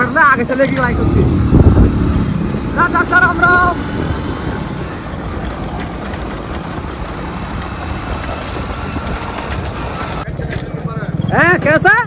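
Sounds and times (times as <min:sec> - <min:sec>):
motorcycle engine running: 0:00.0 - 0:12.0
wind on microphone: 0:00.7 - 0:11.8.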